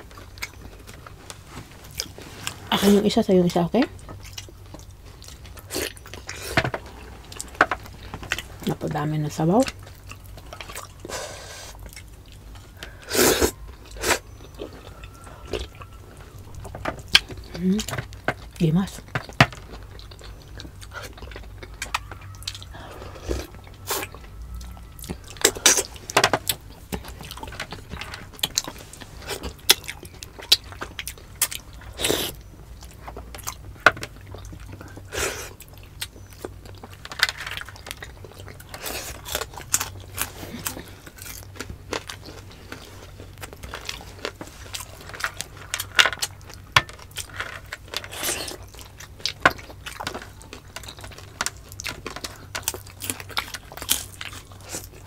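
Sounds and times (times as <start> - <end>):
people chewing meat: 0.0 - 55.0.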